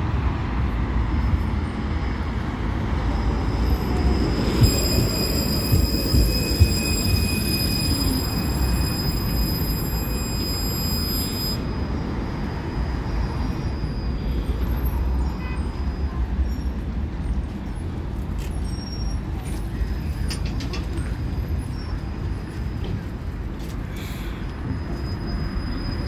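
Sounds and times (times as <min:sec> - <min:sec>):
low rumble of tram and traffic: 0:00.0 - 0:26.0
tram electric whine: 0:00.0 - 0:26.0.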